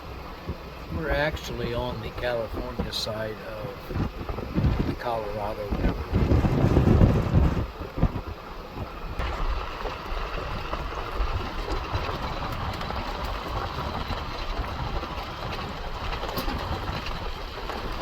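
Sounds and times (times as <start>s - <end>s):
vehicle driving on dirt road: 0.0s - 18.0s
rattles and bumps: 0.9s - 18.0s.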